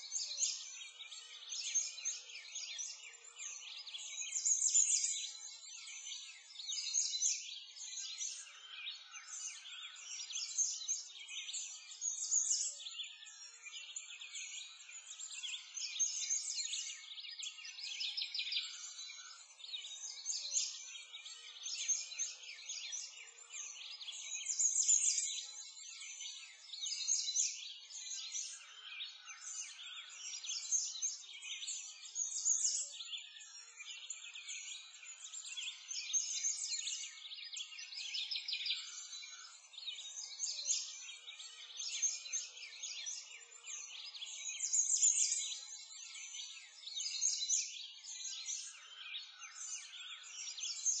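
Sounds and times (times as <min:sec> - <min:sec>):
many birds chirping and singing: 0:00.0 - 0:51.0.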